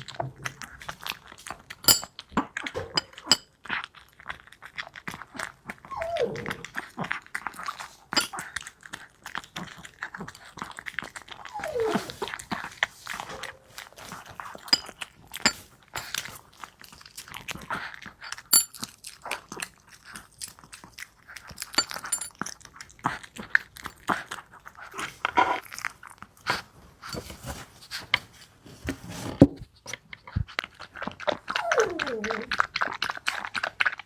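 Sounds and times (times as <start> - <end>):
dog crunching and chewing food: 0.0 - 5.9, 6.5 - 27.6, 29.9 - 34.0.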